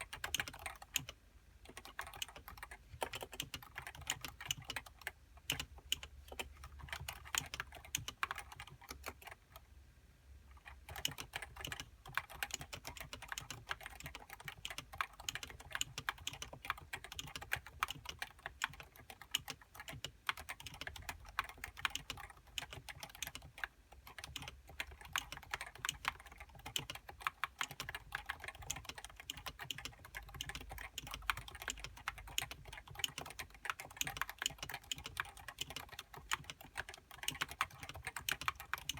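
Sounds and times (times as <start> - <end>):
keyboard typing: 0.0 - 9.6, 10.5 - 38.9.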